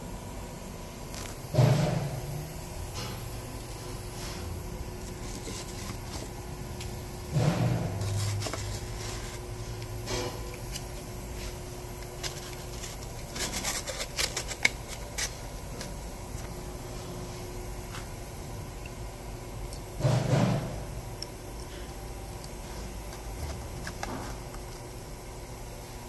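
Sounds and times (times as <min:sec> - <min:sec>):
steady shop hum: 0:00.0 - 0:26.0.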